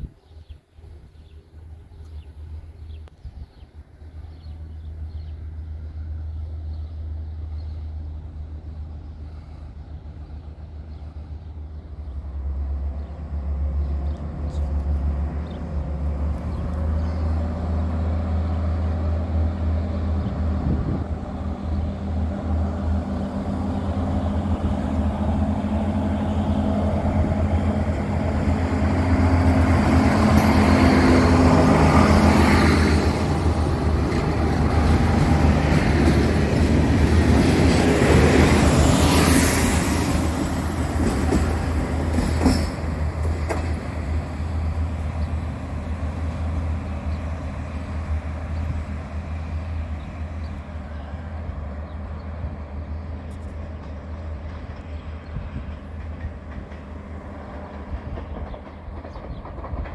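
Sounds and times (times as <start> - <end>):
diesel train engine hum: 0.0 - 59.9
train wheels on rails: 3.9 - 59.9.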